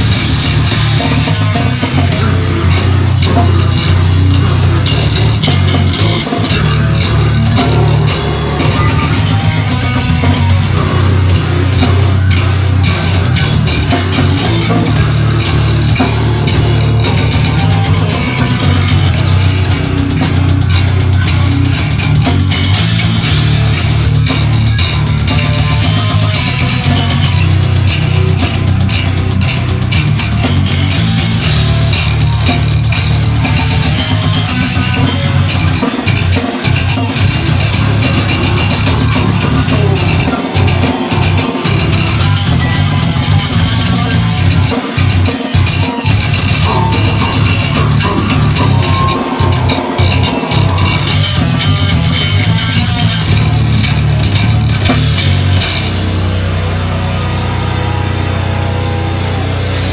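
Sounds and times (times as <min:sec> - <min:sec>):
bass guitar: 0:00.0 - 0:59.9
distorted guitar: 0:00.0 - 0:59.9
fast dense drumming: 0:00.0 - 0:59.9.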